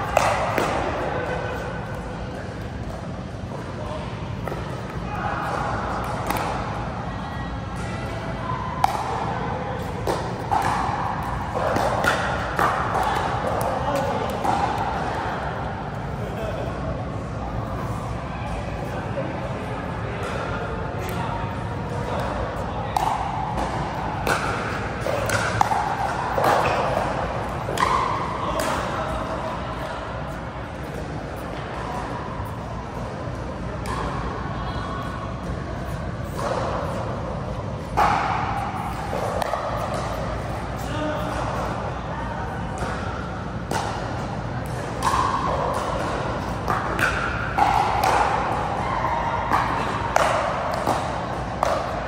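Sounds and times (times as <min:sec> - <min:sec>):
hall background hum: 0:00.0 - 0:52.0.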